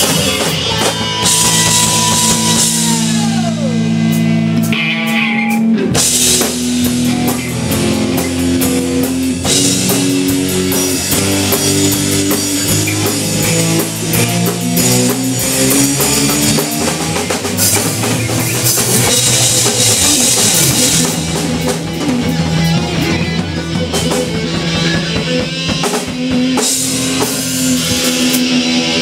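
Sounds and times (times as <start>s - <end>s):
bass guitar: 0.0s - 29.0s
drum kit with cymbal crashes: 0.0s - 29.0s
electric guitars: 0.0s - 29.0s.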